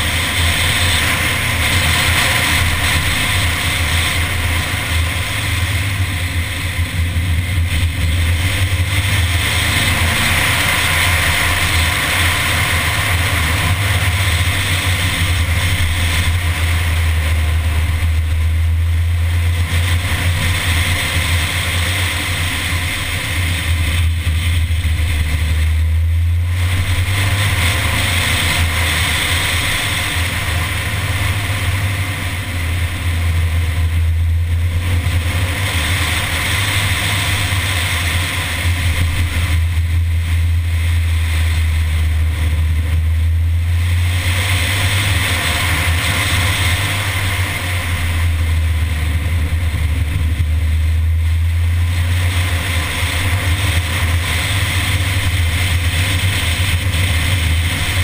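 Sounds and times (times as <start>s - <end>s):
car engine running: 0.0s - 58.0s
wind noise: 0.0s - 58.0s.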